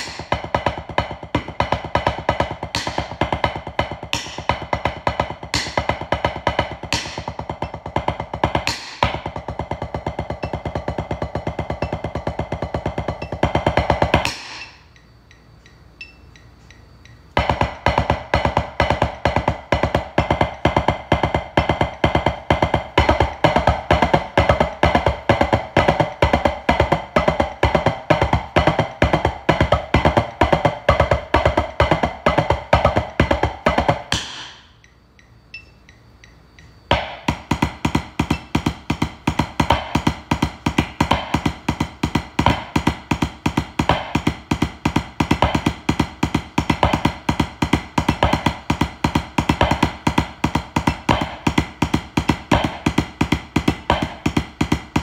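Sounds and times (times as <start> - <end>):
drumsticks on practice pad: 0.0 - 55.0.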